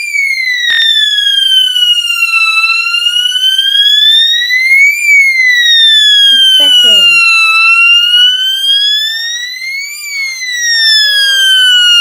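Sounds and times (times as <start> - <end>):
fire alarm sweeping tone: 0.0 - 12.0.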